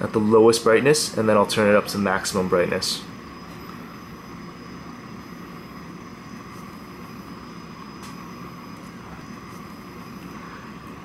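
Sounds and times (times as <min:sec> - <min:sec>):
faint high whine: 0:00.0 - 0:11.0
hiss and low hum: 0:00.0 - 0:11.0.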